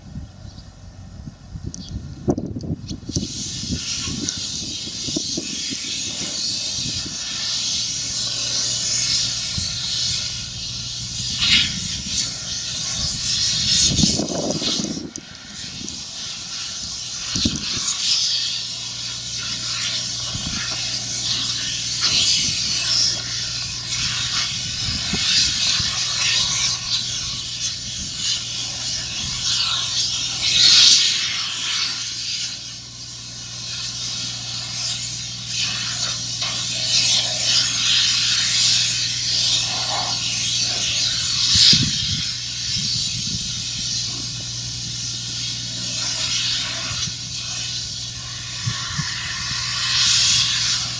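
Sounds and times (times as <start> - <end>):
constant low hum: 0.0 - 50.9
steady hiss: 2.2 - 50.9.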